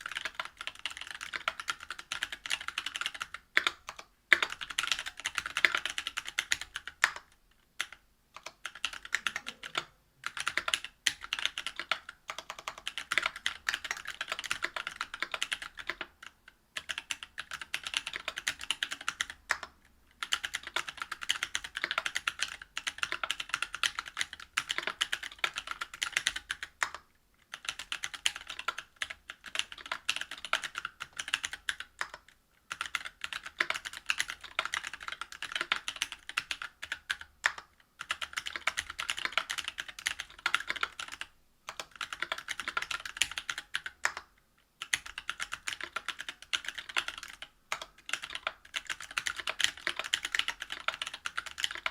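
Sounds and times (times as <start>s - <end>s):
mechanical keyboard typing: 0.0s - 51.9s.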